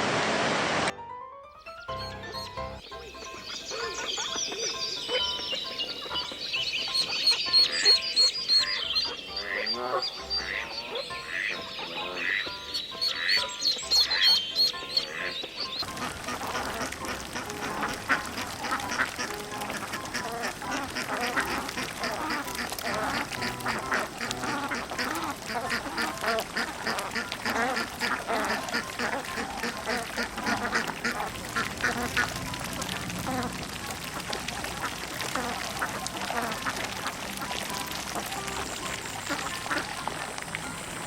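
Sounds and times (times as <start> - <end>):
ducks quacking: 1.8 - 41.0.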